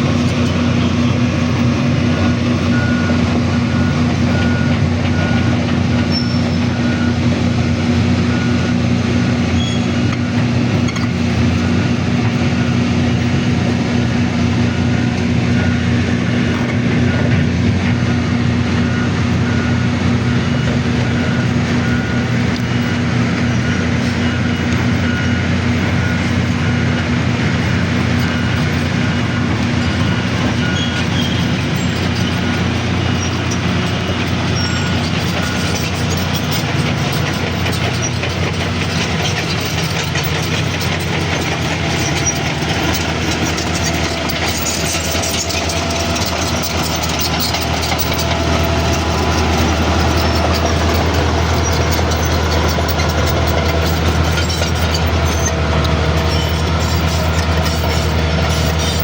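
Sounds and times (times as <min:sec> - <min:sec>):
heavy machinery diesel engine droning: 0:00.0 - 0:59.0.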